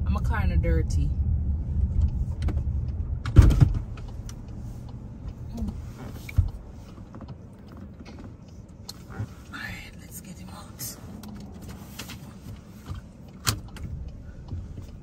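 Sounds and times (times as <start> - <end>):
car rumble from inside cabin: 0.0 - 15.0.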